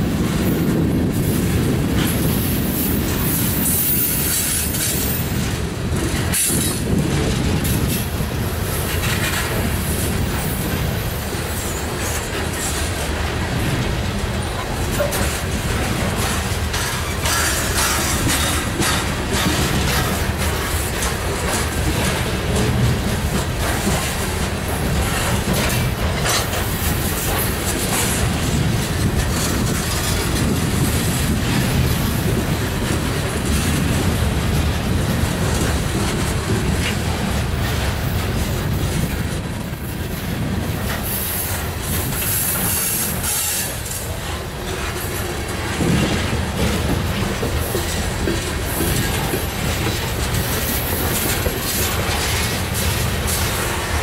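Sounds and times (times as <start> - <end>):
steel wheels rumbling on rail: 0.0 - 54.0
wheels clacking over rail joints: 0.0 - 54.0.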